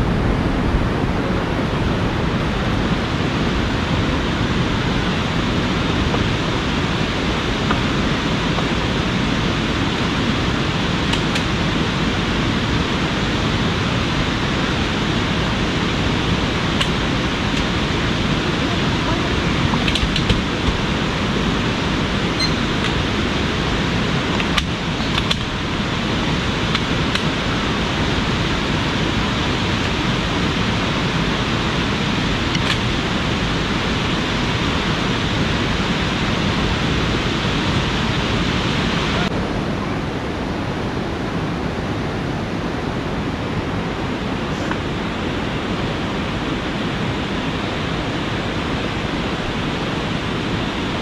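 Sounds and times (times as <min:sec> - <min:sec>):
river rushing: 0:00.0 - 0:51.0.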